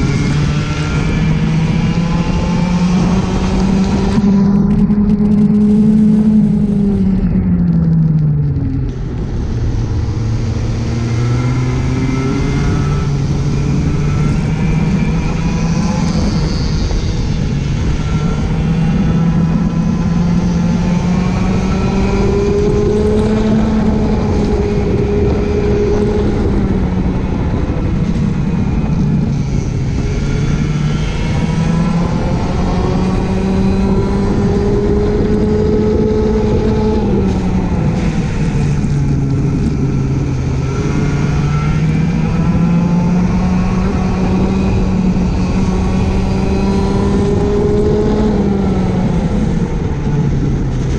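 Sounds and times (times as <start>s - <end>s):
go-kart engine revving: 0.0s - 50.9s.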